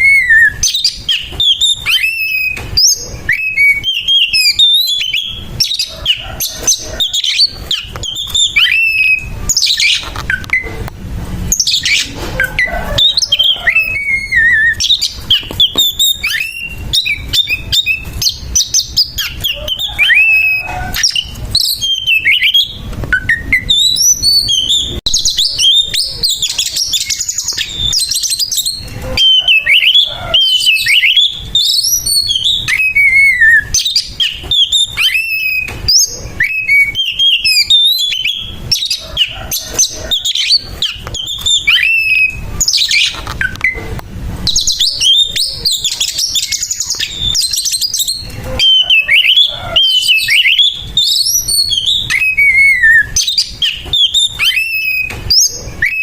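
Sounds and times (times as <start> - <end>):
songbird singing loudly: 0.0 - 10.8, 11.5 - 43.8, 44.4 - 56.0.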